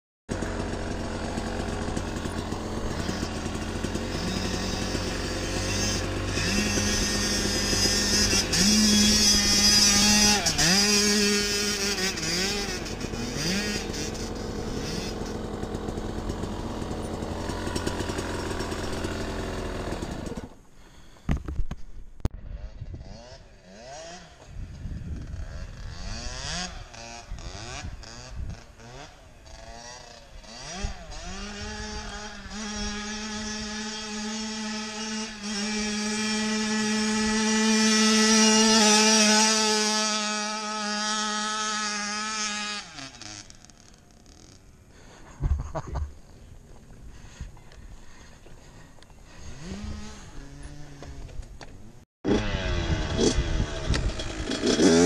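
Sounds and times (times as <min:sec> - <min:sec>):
dirt bike engine revving: 0:00.3 - 0:21.2, 0:22.4 - 0:46.2, 0:48.1 - 0:55.0.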